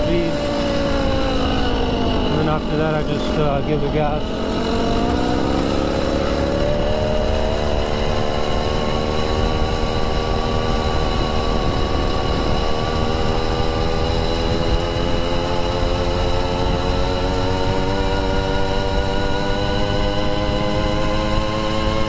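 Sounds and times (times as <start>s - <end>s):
two-stroke engine under throttle: 0.0s - 22.0s.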